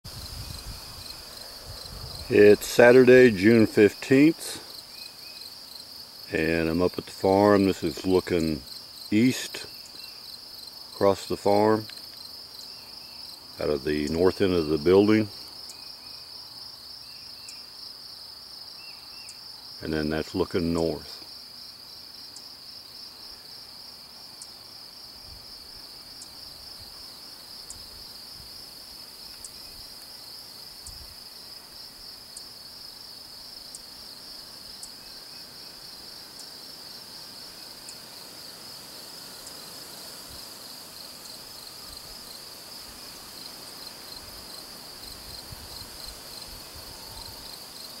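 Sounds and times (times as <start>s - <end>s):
insects trilling: 0.1s - 48.0s.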